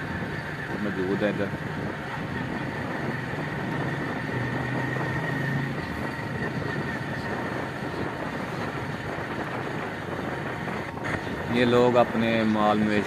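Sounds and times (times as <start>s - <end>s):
low engine hum: 0.0s - 13.0s
road and wind noise: 0.0s - 13.0s.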